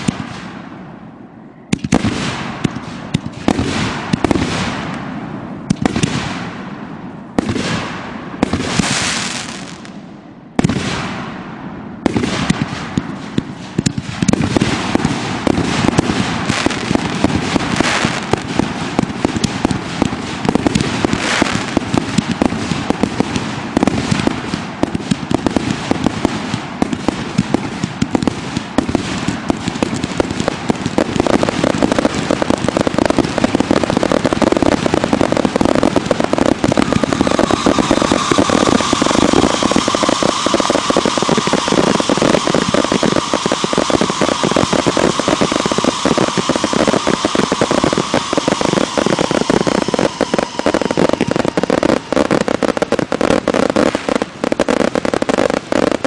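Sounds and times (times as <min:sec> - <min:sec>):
firework bursts with crackle: 0:00.0 - 0:56.0
rapid-fire firework barrage: 0:00.0 - 0:56.0.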